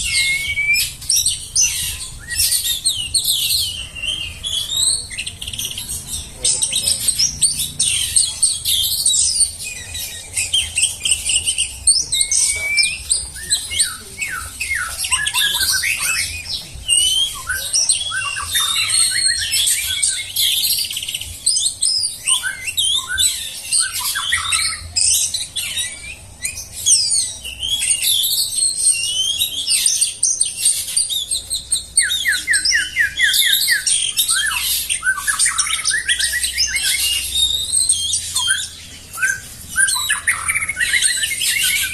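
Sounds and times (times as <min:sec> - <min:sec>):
songbird singing: 0:00.0 - 0:41.9.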